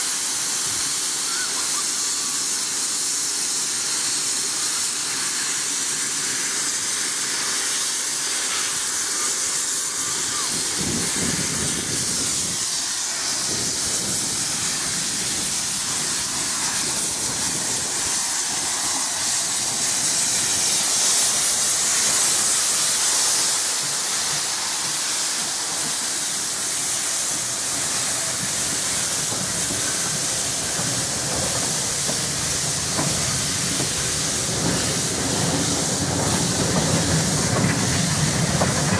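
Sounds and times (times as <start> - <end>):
steam hissing from locomotive: 0.0 - 38.9
train carriages rolling past: 0.0 - 38.9.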